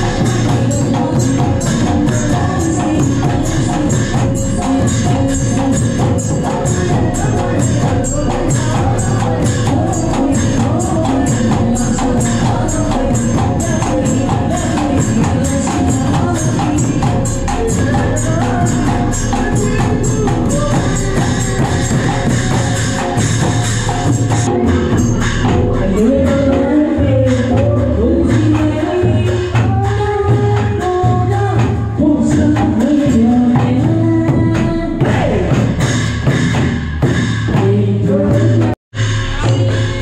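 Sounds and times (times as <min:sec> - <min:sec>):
fast beat music: 0:00.0 - 0:40.0
sharp bright percussion: 0:00.0 - 0:40.0
sustained pitched instruments: 0:00.0 - 0:40.0.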